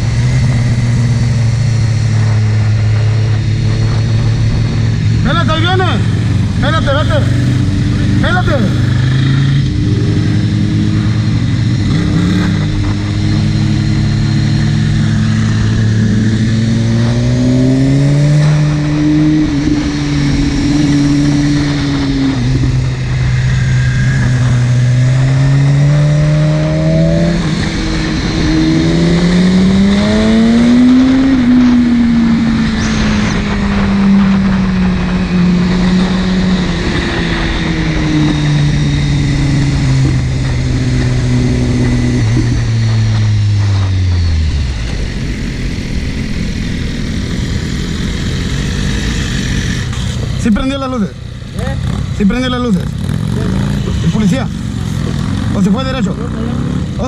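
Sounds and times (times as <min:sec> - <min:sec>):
motorcycle engine accelerating: 0:00.0 - 0:57.0
road and wind noise: 0:00.0 - 0:57.0.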